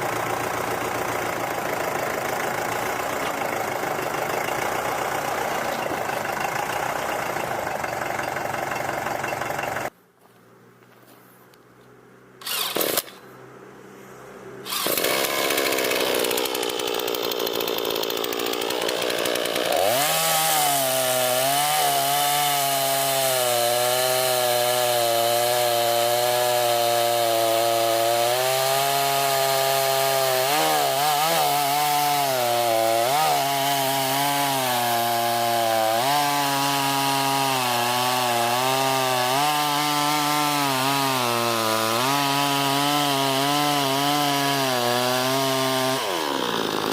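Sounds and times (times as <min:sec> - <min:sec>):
chainsaw cutting wood: 0:00.0 - 0:09.9, 0:12.4 - 0:13.3, 0:14.6 - 0:46.9.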